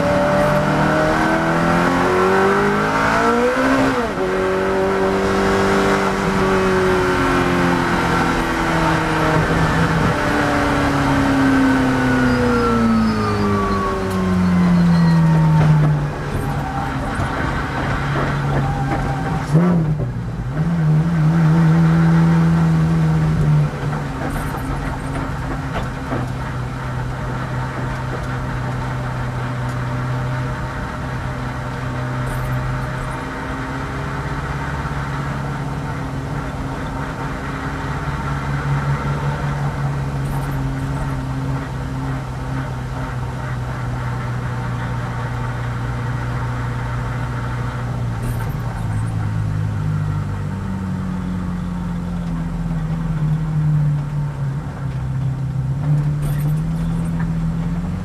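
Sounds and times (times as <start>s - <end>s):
race car engine at low revs: 0.0s - 58.0s.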